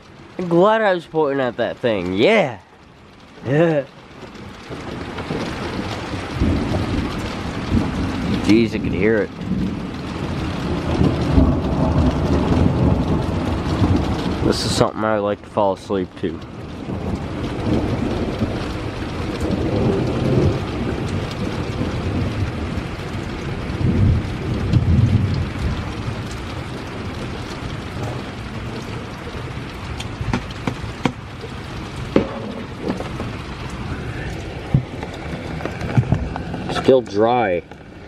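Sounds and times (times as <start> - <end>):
sharp raindrops landing close: 0.0 - 38.0
steady rain falling: 0.0 - 38.0
thunder rumbling: 0.0 - 38.0.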